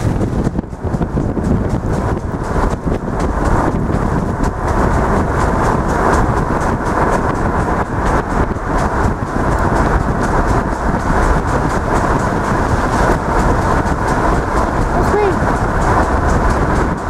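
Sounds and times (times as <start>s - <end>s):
car road noise on wet road: 0.0s - 17.0s
wind buffeting microphone: 0.0s - 17.0s.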